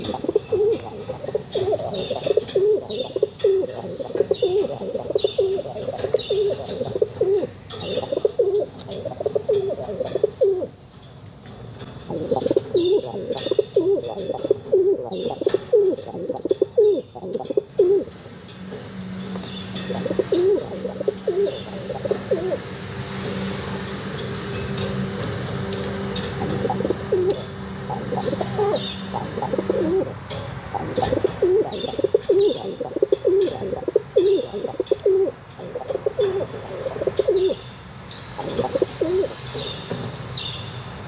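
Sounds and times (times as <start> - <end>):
pigeons cooing: 0.0 - 10.8, 12.0 - 18.2, 19.4 - 23.5, 25.6 - 37.6, 38.4 - 39.6.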